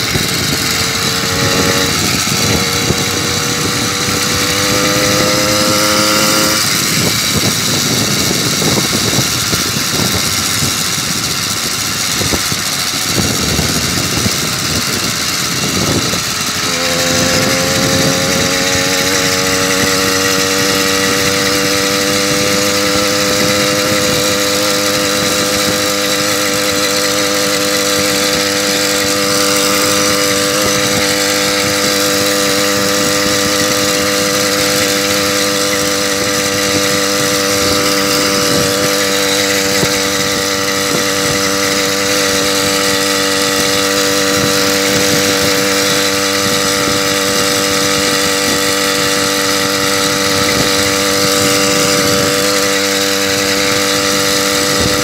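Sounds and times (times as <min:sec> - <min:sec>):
moped engine whining: 0:00.0 - 0:55.0
wind noise on microphone: 0:00.0 - 0:55.0.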